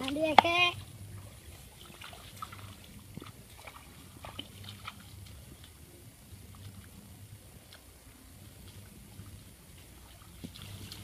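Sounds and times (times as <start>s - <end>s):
bare feet wading through water: 0.0s - 11.0s.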